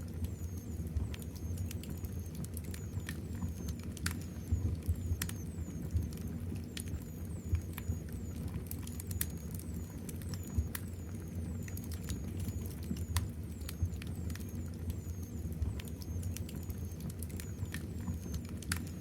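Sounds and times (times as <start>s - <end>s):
wood fire crackling: 0.1s - 18.9s.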